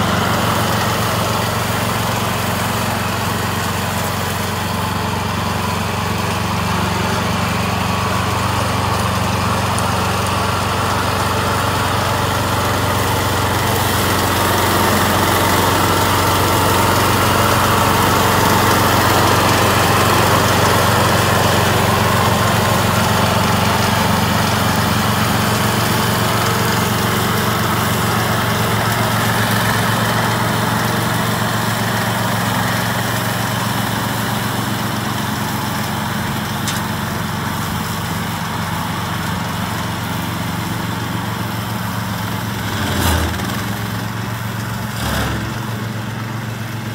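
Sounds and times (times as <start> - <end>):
petrol mower engine cutting grass: 0.0 - 46.9.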